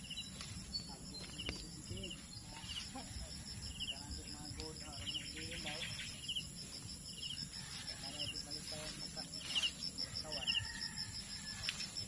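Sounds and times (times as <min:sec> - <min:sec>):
insects chirring: 0:00.0 - 0:12.0
short insect trill: 0:01.4 - 0:12.0.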